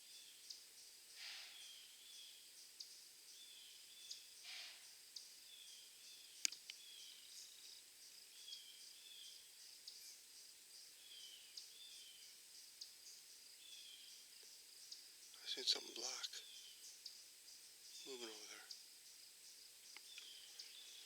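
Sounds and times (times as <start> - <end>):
insects chirping: 0.0 - 21.0
bird-like chirps: 1.2 - 10.2, 10.9 - 21.0.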